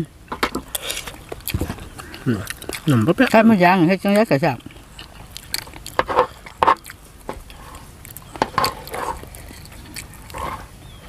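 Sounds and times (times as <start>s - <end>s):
chewing and smacking: 0.6s - 11.0s.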